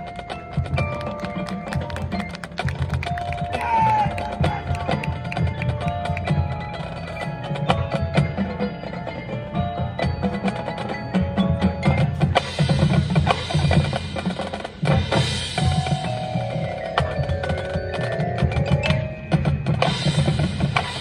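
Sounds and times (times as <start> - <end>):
mallet keyboards ringing: 0.0 - 21.0.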